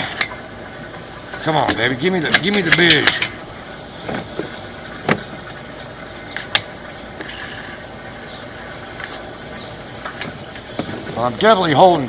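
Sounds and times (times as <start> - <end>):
mechanical running hum: 0.0 - 12.0.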